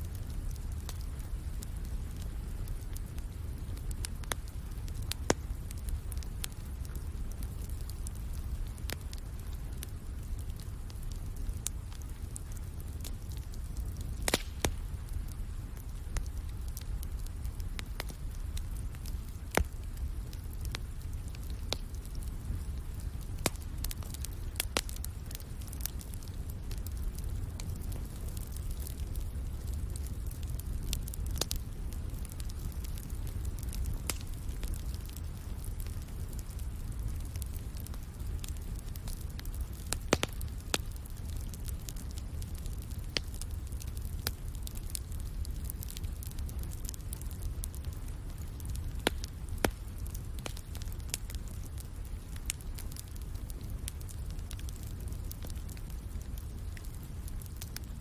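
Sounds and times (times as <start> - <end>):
light rain hiss: 0.0 - 58.0
wood fire crackling and popping: 0.0 - 58.0.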